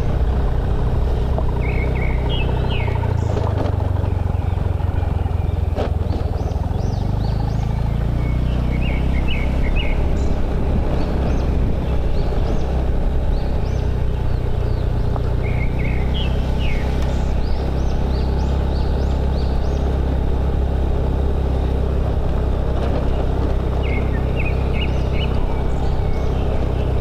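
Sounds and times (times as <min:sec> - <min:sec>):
birds chirping: 0:00.0 - 0:27.0
motorcycle engine running: 0:00.0 - 0:27.0
road and wind noise: 0:00.0 - 0:27.0.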